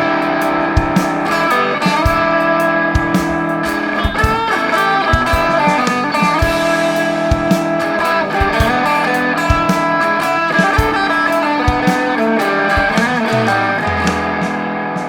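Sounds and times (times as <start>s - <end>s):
electric guitar music: 0.0s - 15.0s
steady drum beat: 0.0s - 15.0s.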